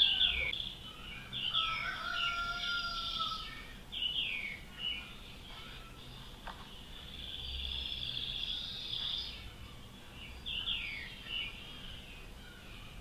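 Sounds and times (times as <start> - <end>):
nightingale singing: 0.0 - 13.0.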